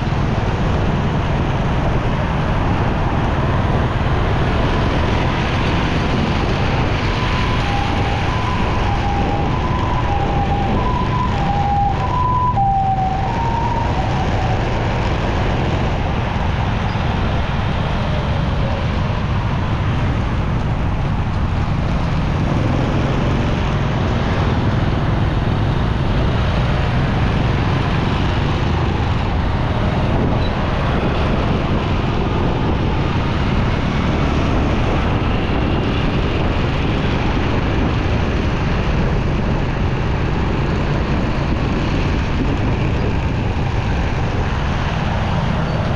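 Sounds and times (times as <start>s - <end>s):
road rumble: 0.0s - 45.9s
wind rush: 0.0s - 45.9s.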